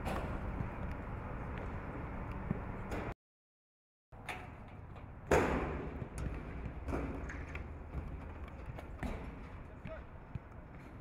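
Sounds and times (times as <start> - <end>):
outdoor background noise: 0.0 - 3.2, 4.1 - 11.0.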